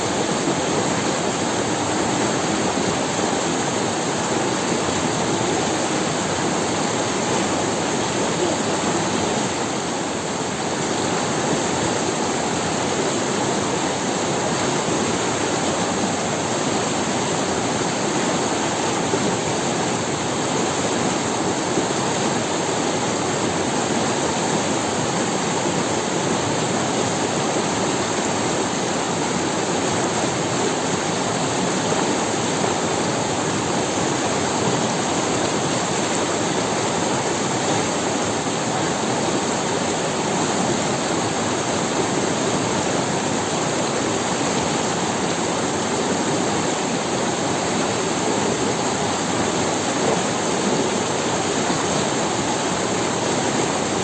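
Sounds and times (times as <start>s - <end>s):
river water over stones: 0.0s - 54.0s.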